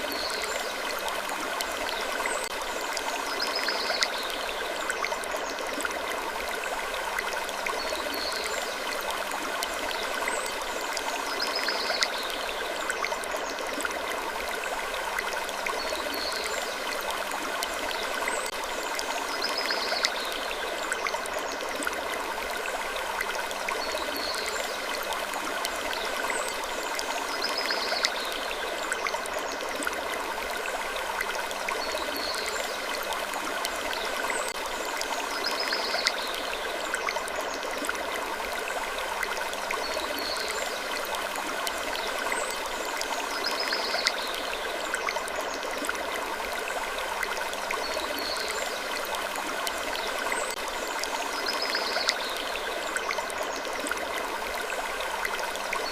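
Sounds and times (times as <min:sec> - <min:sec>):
rushing water-like background: 0:00.0 - 0:55.9.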